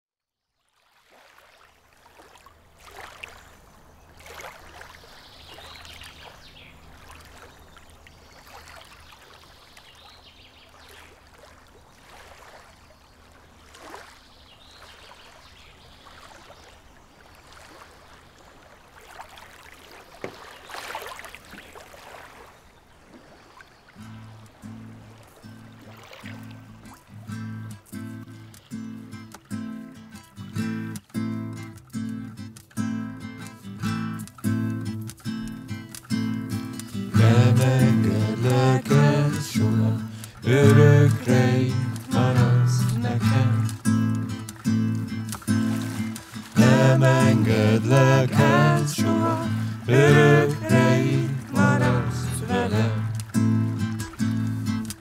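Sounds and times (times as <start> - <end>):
water lapping and trickling: 0.4 - 55.0
canoe paddles splashing: 0.6 - 32.4, 33.0 - 55.0
small splashes: 0.6 - 55.0.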